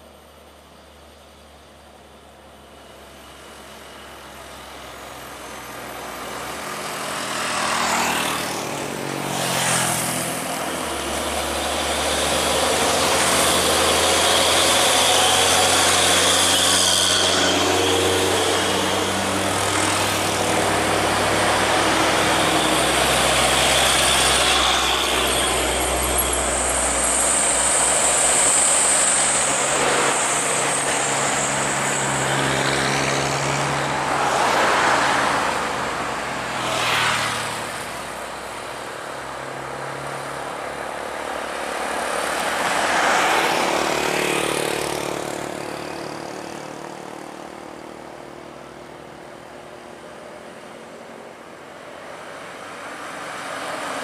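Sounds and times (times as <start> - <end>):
truck engines droning: 0.0 - 54.0
vehicles passing: 0.0 - 54.0.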